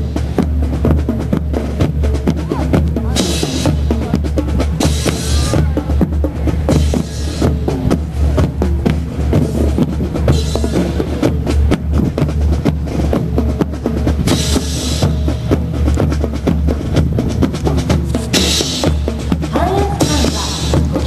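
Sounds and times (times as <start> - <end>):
marching band playing: 0.0 - 21.0
snare and bass drums: 0.0 - 21.0.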